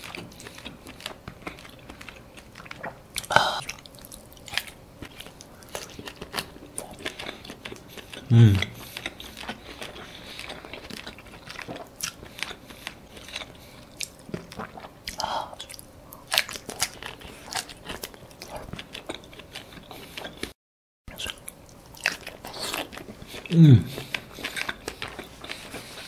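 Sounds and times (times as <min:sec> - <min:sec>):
man biting and chewing squid: 0:00.0 - 0:20.5, 0:21.1 - 0:26.0.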